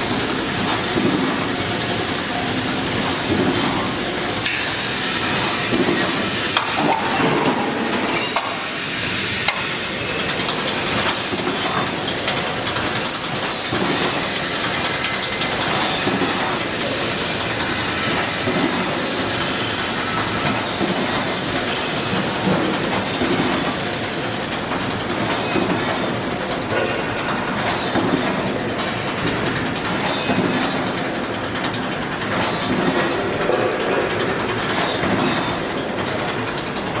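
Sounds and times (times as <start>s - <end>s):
welding machine clattering: 0.0s - 37.0s.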